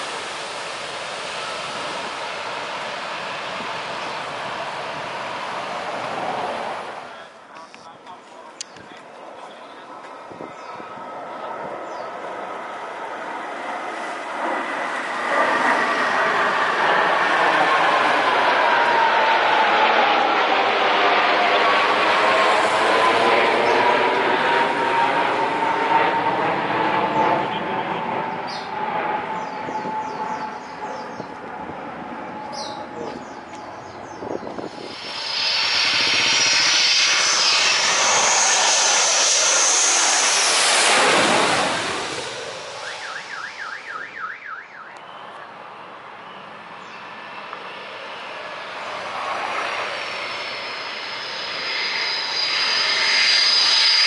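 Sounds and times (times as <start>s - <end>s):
high jet whine: 0.0s - 54.0s
jet engines passing overhead: 0.0s - 54.0s.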